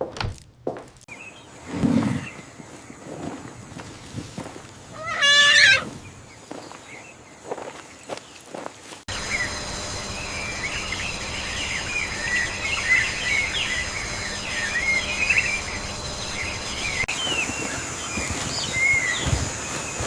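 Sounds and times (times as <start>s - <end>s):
small birds chirping: 1.1s - 20.0s
high insect-like hum: 1.4s - 20.0s.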